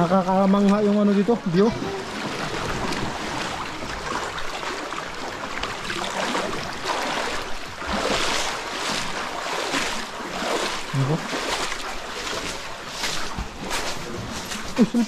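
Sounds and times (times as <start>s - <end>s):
water splashing against boat hull: 0.0s - 15.0s.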